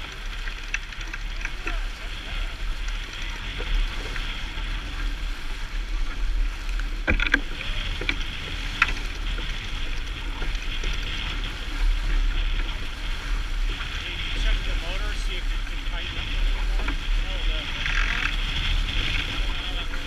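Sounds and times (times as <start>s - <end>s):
water rushing along hull: 0.0s - 20.0s
wind rumbling on microphone: 0.0s - 20.0s.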